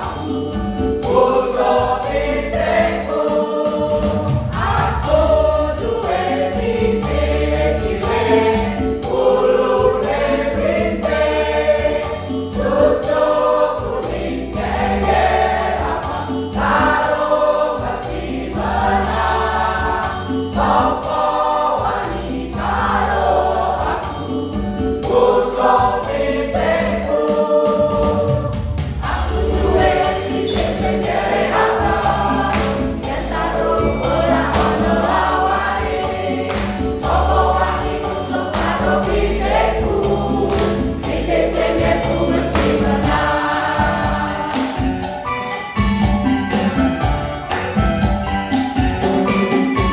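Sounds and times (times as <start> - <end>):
choir singing: 0.0 - 49.9.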